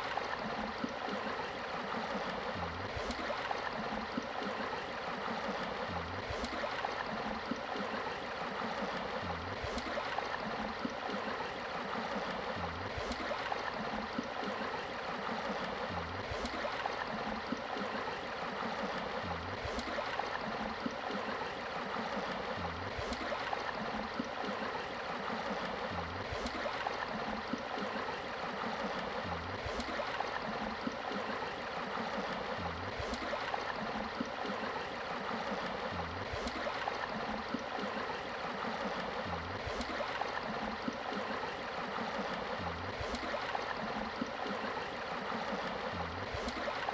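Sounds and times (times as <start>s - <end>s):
stream water babbling: 0.0s - 46.9s.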